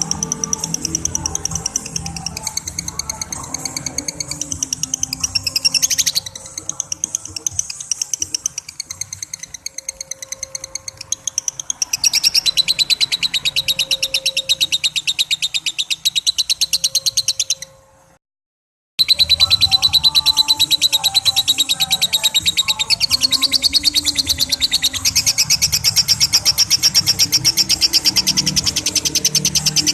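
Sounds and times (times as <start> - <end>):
lovebird chattering trill: 0.0 - 17.8, 19.0 - 29.9.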